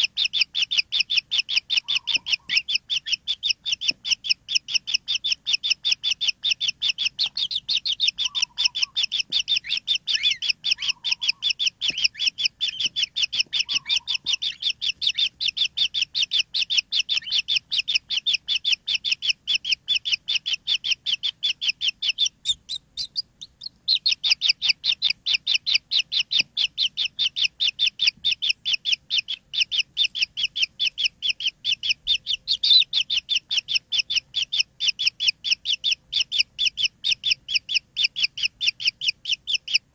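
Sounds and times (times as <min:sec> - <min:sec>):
nestlings chirping rapidly: 0:00.0 - 0:39.9.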